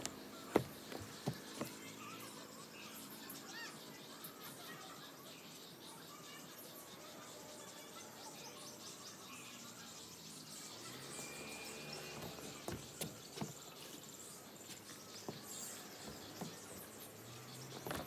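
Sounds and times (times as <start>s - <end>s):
birds chirping: 0.0s - 18.0s
insects chirping: 0.0s - 18.0s.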